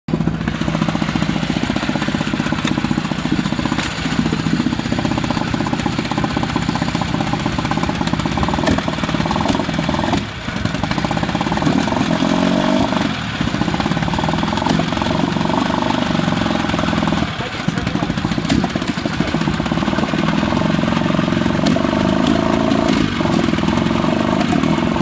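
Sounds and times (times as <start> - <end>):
outboard motor running: 0.1 - 25.0.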